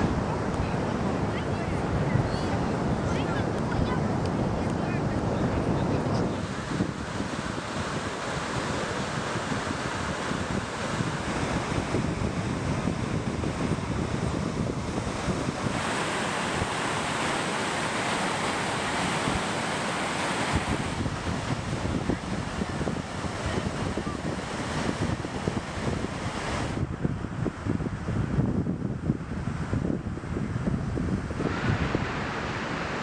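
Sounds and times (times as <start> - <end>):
surf breaking on beach: 0.0 - 33.0
wind buffeting microphone: 0.0 - 33.0.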